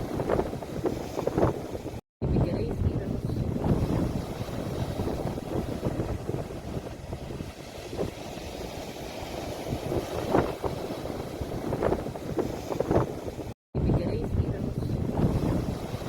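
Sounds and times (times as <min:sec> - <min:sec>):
sea waves washing on shore: 0:00.0 - 0:16.0
wind rumbling on microphone: 0:00.0 - 0:16.0.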